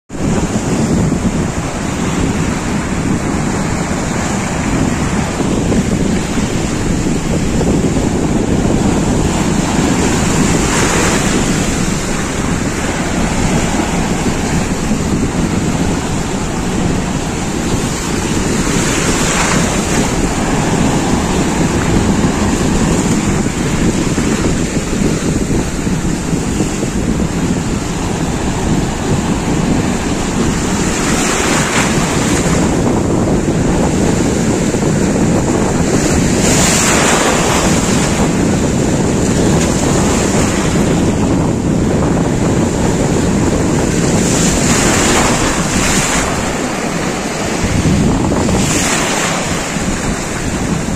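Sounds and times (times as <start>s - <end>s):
surf on a rocky shore: 0.1s - 50.9s
wind on microphone: 0.1s - 50.9s.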